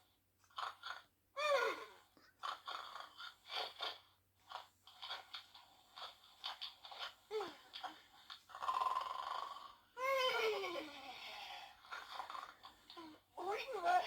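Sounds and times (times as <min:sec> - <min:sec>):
electronic toy snoring: 0:00.5 - 0:14.0.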